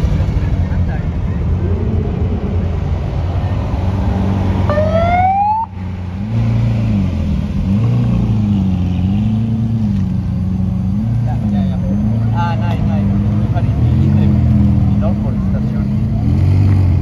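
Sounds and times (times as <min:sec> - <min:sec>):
lower engine note passing: 0:00.0 - 0:17.0
supercar engine revving: 0:00.0 - 0:17.0.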